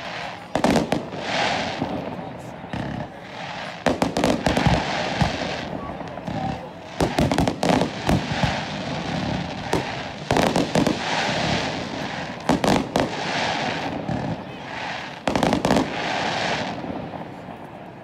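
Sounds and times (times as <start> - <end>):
fireworks bangs: 0.0 - 18.0
fireworks crackling hiss: 0.0 - 18.0.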